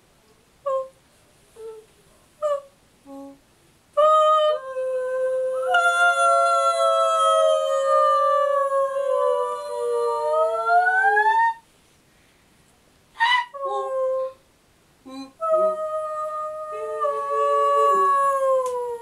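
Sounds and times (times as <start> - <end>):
women singing held notes: 0.6 - 11.6, 13.2 - 19.0.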